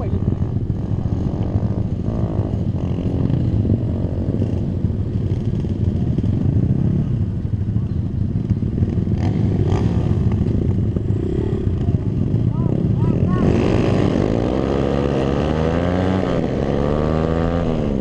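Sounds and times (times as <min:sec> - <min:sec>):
motorcycles idling: 0:00.0 - 0:18.0.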